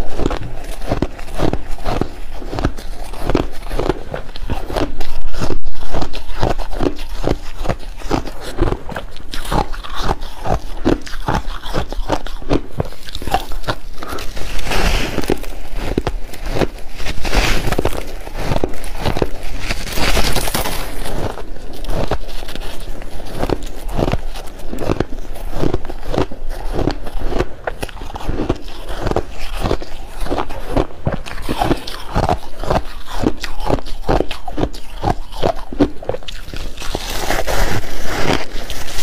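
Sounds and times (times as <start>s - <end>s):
chewing crushed ice: 0.0s - 39.0s.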